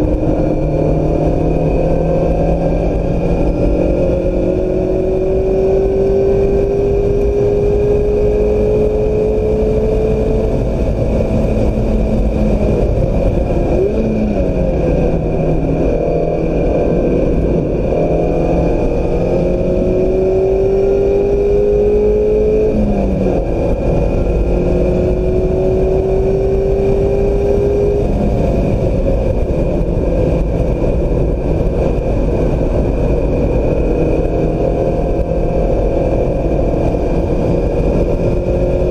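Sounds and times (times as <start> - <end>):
car engine accelerating: 0.0 - 38.9
road and wind noise: 0.0 - 38.9.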